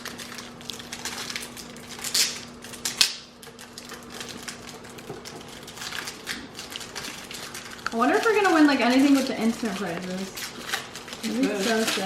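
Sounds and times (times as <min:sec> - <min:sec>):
wrappers crinkling and tearing: 0:00.0 - 0:12.0.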